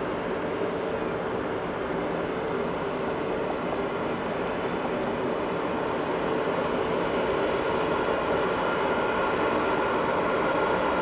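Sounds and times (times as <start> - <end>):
jet engines humming at taxi power: 0.0 - 11.0.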